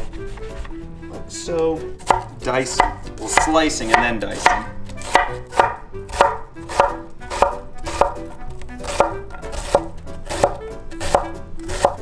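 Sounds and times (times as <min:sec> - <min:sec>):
knife chopping on wooden board: 0:02.0 - 0:12.0.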